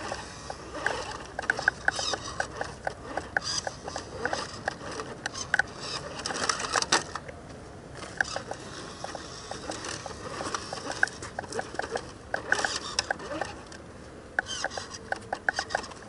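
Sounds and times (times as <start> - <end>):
toy truck electric motor whirring: 0.0 - 7.2, 8.0 - 13.8, 14.4 - 16.0
irregular clicks and ticks: 0.0 - 7.4, 8.0 - 13.8, 14.4 - 16.0.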